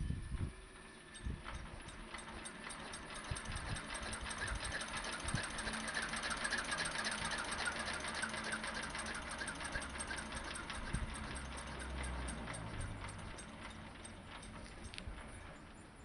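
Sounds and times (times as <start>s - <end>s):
stationary engine ticking: 1.1s - 16.0s.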